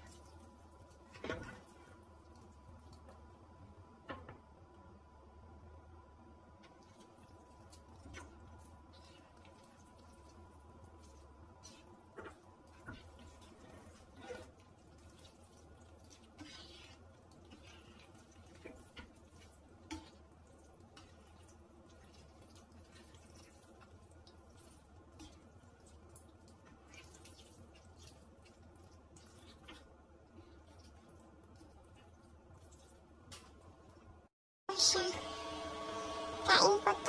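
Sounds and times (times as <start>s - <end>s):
wet squelching of pasta: 0.0s - 3.2s, 6.7s - 34.1s
low steady hum: 0.0s - 37.0s.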